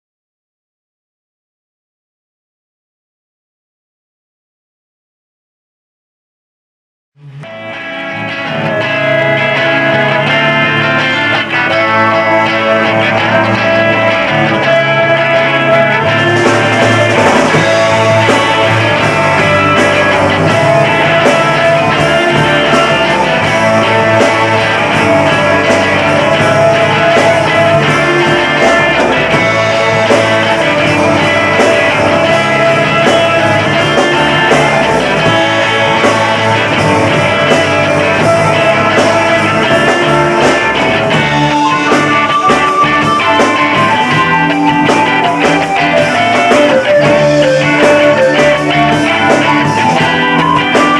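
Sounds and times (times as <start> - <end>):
drums: 7.1 - 50.9
bass guitar: 7.2 - 50.9
electric guitar: 7.2 - 50.9.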